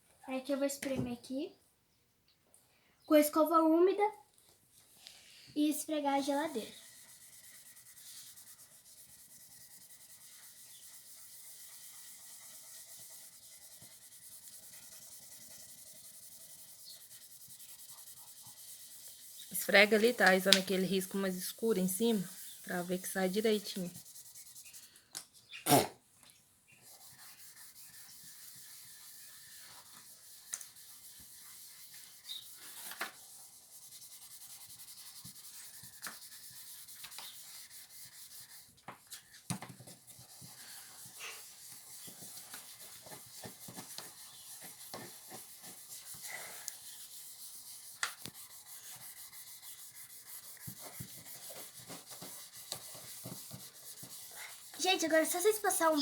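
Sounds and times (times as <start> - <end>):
toothbrush scrubbing a surface: 6.0 - 24.9, 26.7 - 56.0.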